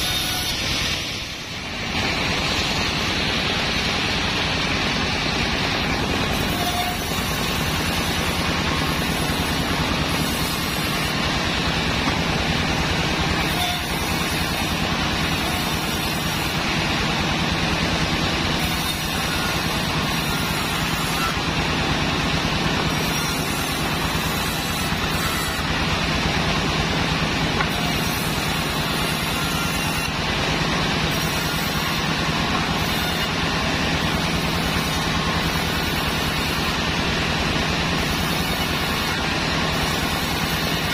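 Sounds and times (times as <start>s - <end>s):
band saw cutting log: 0.0s - 40.9s
sawmill drive drone: 0.0s - 40.9s.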